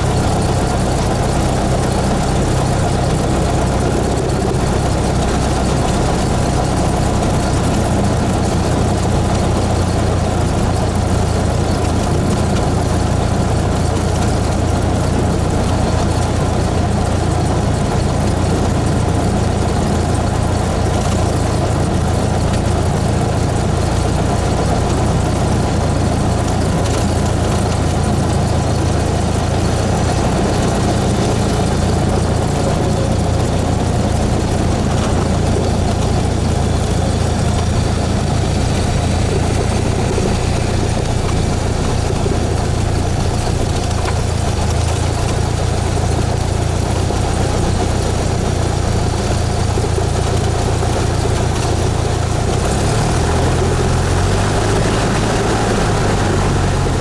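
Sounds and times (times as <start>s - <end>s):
light aircraft engine and propeller drone: 0.0s - 57.0s.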